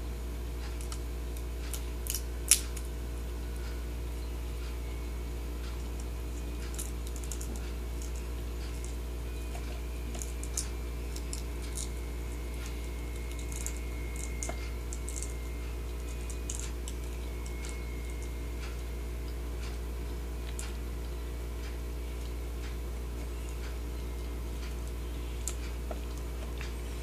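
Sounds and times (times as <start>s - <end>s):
steady low hum: 0.0s - 27.0s
crab claws clicking on chips: 0.7s - 2.9s, 5.7s - 26.8s.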